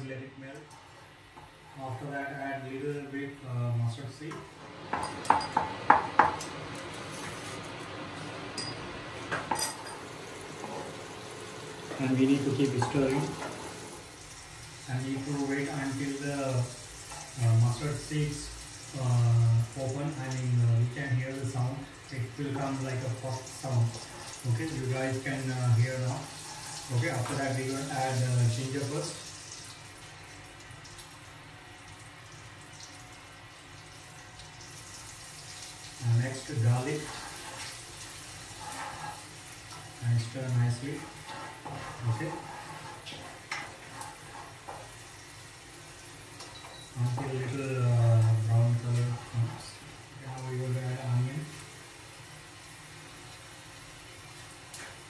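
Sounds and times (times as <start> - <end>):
butter sizzling in a wok: 9.8 - 55.0.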